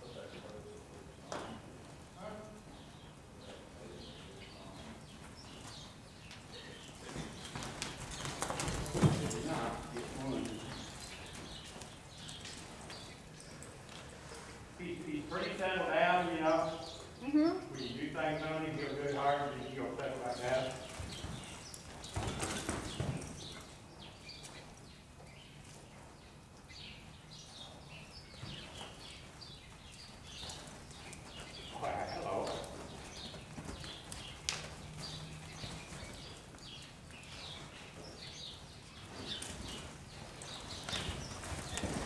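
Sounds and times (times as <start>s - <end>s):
horse hooves thudding in sand: 1.0s - 17.2s, 19.4s - 42.0s.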